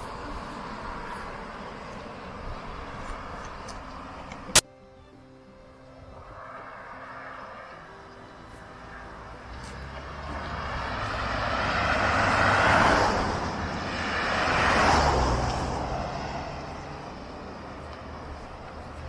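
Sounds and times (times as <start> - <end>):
vehicles passing by: 0.0 - 19.0.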